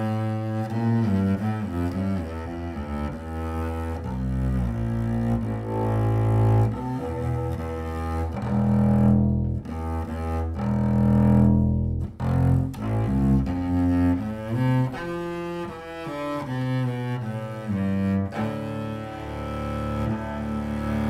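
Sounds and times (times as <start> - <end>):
bowed double bass: 0.0 - 21.0.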